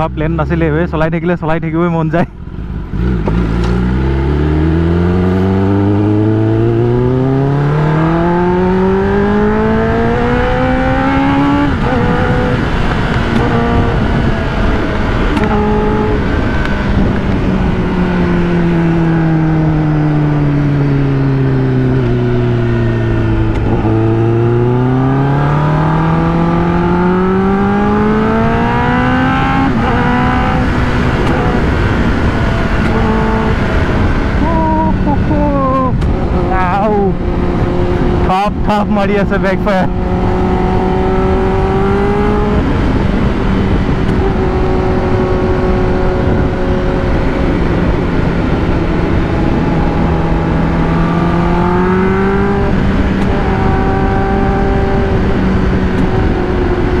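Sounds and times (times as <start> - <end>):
motorcycle engine revving: 2.4 - 57.0.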